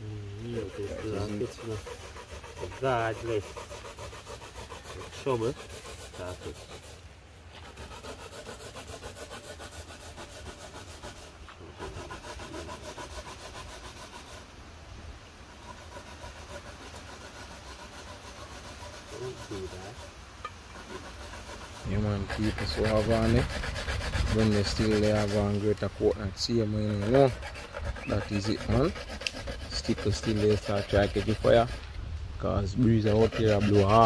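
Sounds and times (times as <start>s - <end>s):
coconut rasping on metal grater: 0.4s - 7.0s, 7.6s - 14.4s, 15.6s - 20.1s, 20.7s - 31.8s, 33.0s - 34.0s.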